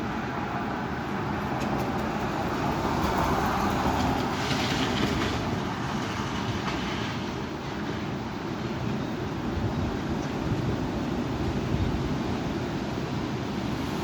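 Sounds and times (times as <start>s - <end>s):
strong wind blowing: 0.0s - 14.0s
wind rumble on microphone: 0.0s - 14.0s.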